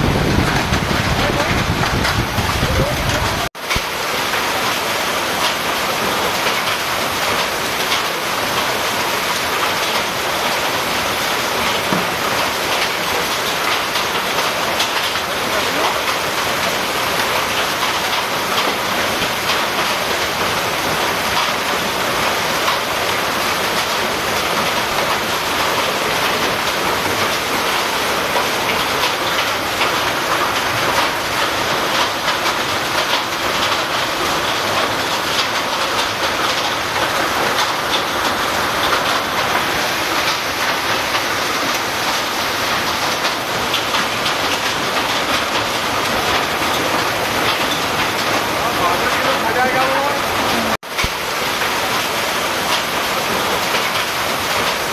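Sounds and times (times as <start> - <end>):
hail and rain on metal roof: 0.0 - 54.9.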